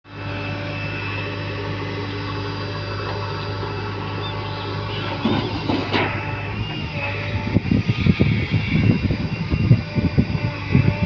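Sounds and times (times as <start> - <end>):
diesel engine humming: 0.1 - 11.0.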